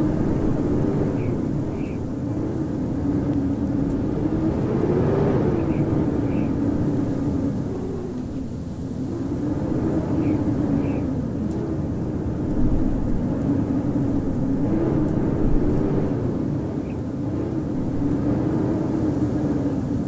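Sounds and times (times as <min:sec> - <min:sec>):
blizzard wind howling: 0:00.0 - 0:20.0.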